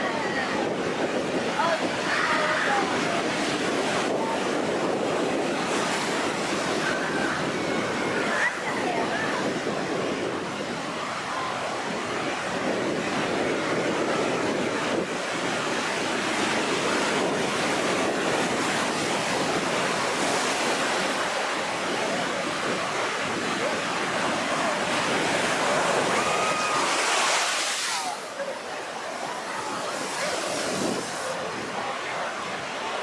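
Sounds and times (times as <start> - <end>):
rough sea surf: 0.0 - 33.0
wind: 0.0 - 33.0.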